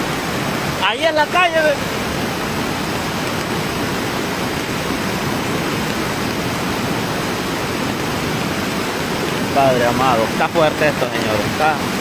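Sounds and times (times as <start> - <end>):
river in flood rushing: 0.0 - 12.0.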